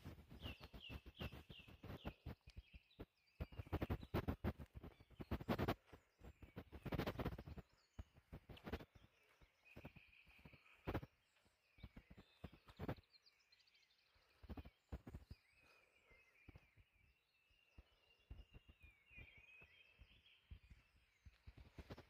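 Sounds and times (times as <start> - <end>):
faint birdsong warbling: 0.0 - 22.0.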